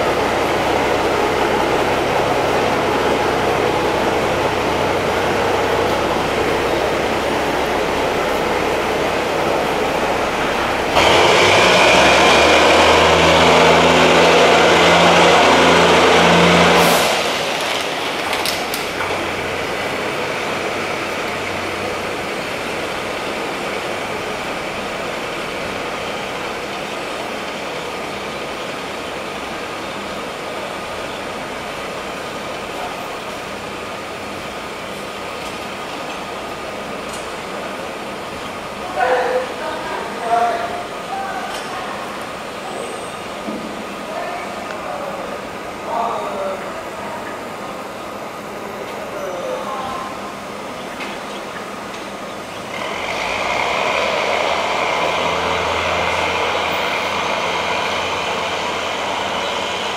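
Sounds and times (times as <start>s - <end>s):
train running past: 0.0s - 59.9s.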